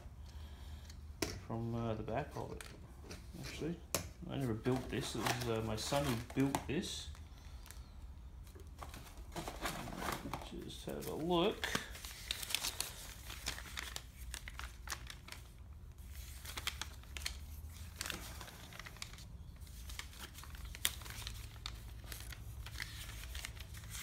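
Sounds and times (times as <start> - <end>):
paper booklet crinkling and rustling: 1.7 - 24.0.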